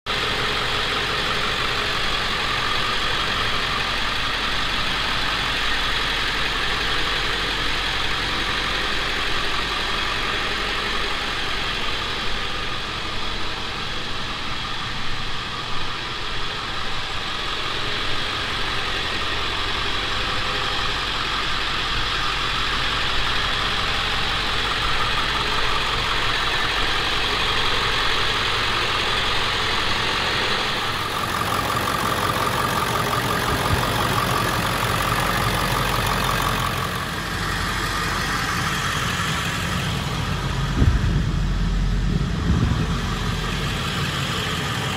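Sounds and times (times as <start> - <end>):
diesel engine idling: 0.1 - 44.9.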